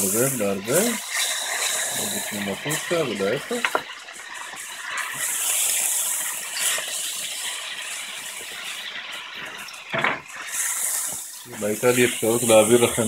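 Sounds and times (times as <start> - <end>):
grains frying and rattling in pot: 0.0 - 13.0.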